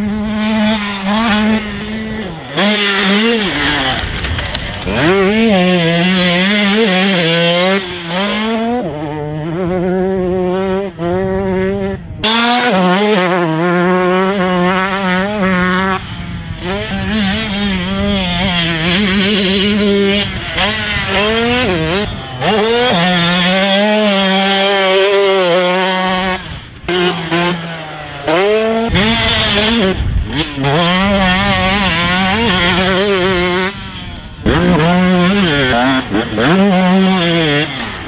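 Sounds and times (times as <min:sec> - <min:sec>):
two-stroke motorcycle engine revving: 0:00.0 - 0:38.0.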